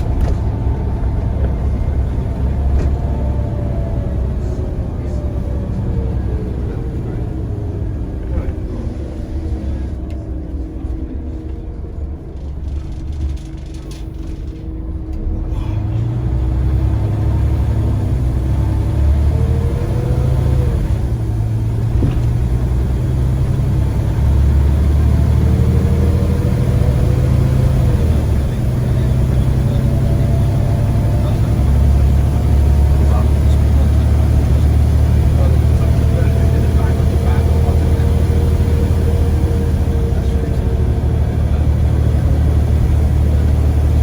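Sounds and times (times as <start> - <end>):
bus diesel engine rumble: 0.0 - 44.0
faint rising whines: 0.0 - 44.0.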